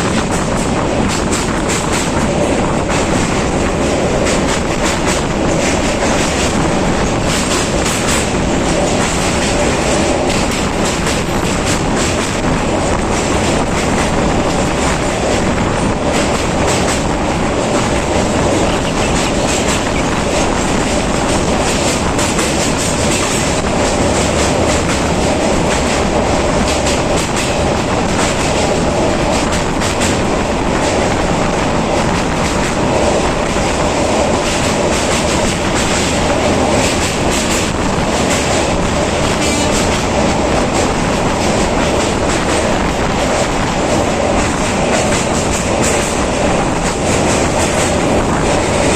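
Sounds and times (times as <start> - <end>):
train rumbling on rails: 0.0 - 48.9
wheels clicking over rail joints: 0.0 - 48.9.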